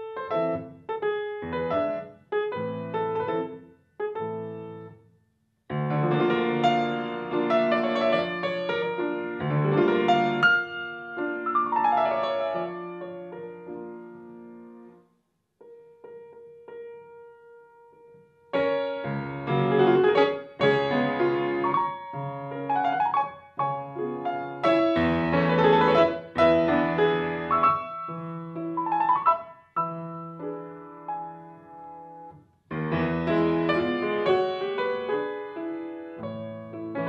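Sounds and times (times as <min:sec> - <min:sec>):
grand piano playing: 0:00.0 - 0:05.0, 0:05.7 - 0:15.0, 0:15.6 - 0:37.0.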